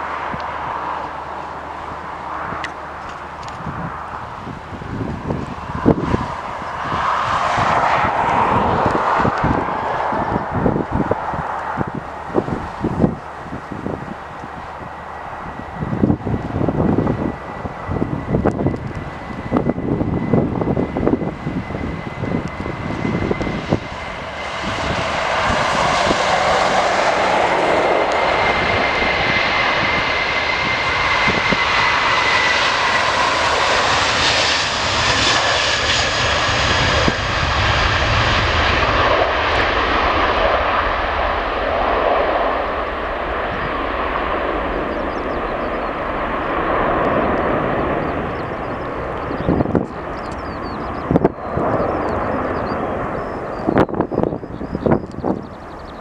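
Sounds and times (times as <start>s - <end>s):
airliner engines passing: 0.0s - 56.0s.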